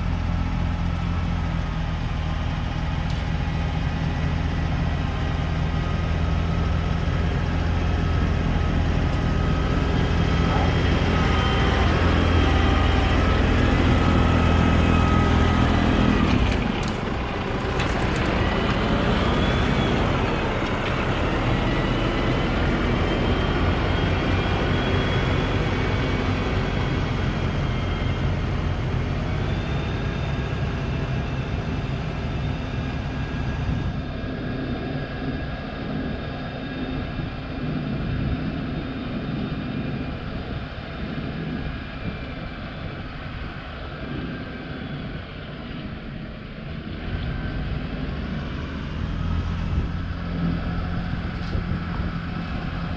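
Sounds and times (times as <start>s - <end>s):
high whine: 0.0s - 52.9s
tractor engine running: 0.0s - 52.9s.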